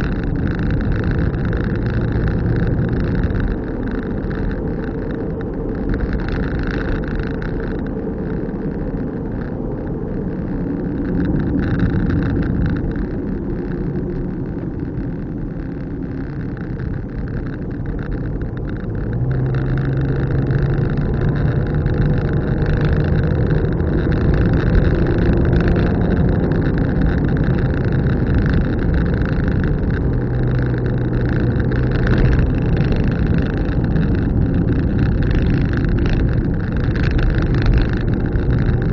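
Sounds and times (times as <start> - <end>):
car engine: 0.0 - 38.9
low engine hum: 0.0 - 38.9
road noise: 0.0 - 38.9.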